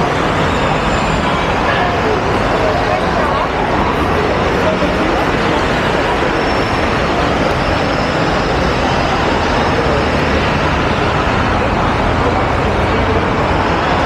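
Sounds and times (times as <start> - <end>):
city traffic: 0.0 - 14.0.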